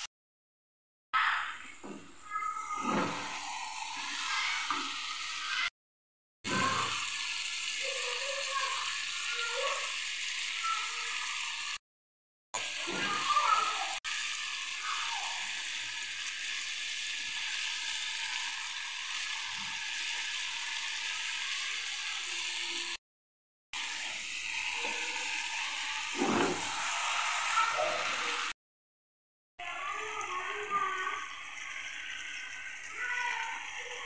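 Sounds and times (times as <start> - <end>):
chicken sizzling in a frying pan: 3.2 - 5.7, 6.5 - 11.8, 12.6 - 23.0, 23.8 - 28.6, 29.6 - 34.0.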